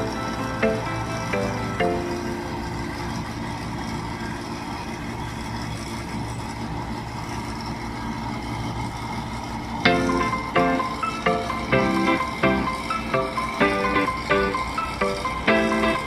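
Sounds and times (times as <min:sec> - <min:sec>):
harvester engine running: 0:00.0 - 0:16.0.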